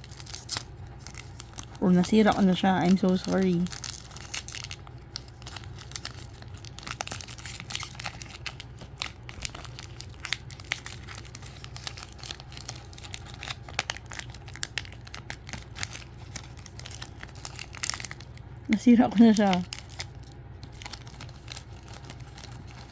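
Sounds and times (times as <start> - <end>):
wrapper crinkling and tearing: 0.0 - 22.9.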